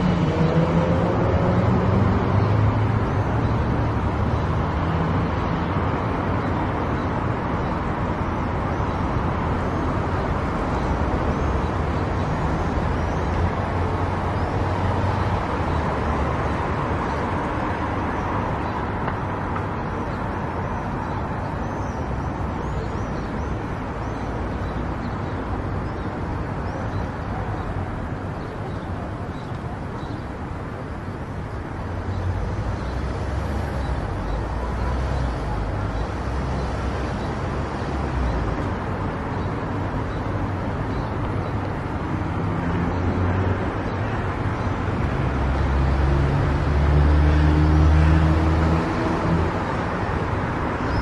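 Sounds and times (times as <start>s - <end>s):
car tyre noise on highway: 0.0s - 51.0s.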